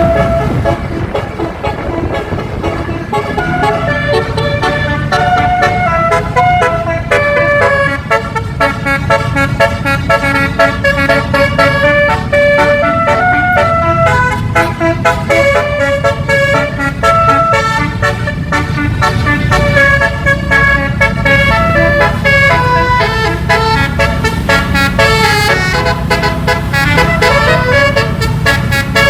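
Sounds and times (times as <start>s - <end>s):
bus engine low rumble: 0.0s - 29.0s
bus horn playing melody: 0.0s - 29.0s.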